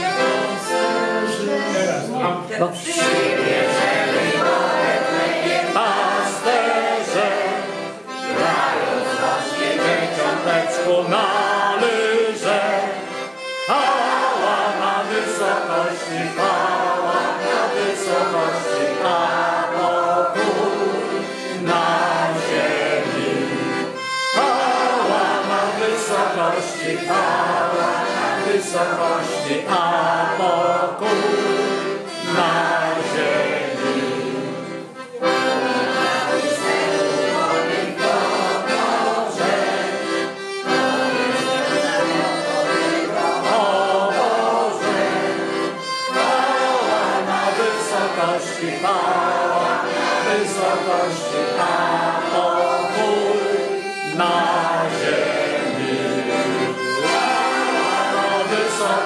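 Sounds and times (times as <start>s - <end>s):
accordion: 0.0s - 59.0s
group singing a carol: 0.0s - 59.0s.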